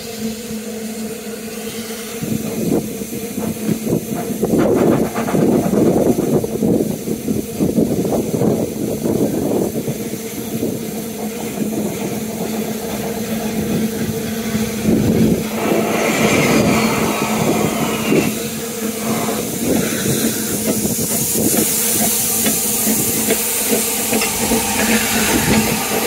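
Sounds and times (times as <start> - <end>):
steam hissing: 0.0 - 26.0
steam locomotive chuffing: 0.0 - 26.0.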